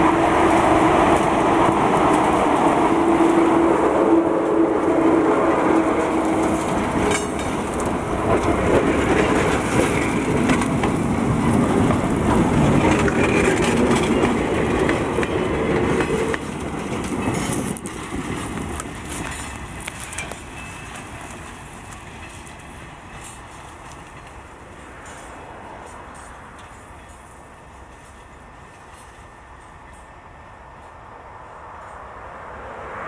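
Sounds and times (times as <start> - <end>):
train wheels clattering on rails: 0.0 - 31.0
diesel locomotive engine running: 0.0 - 33.0.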